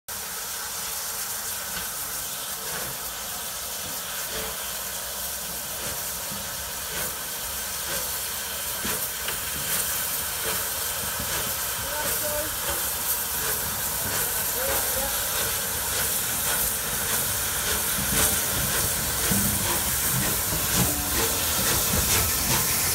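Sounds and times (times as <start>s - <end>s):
steam locomotive hissing steam: 0.1s - 22.9s.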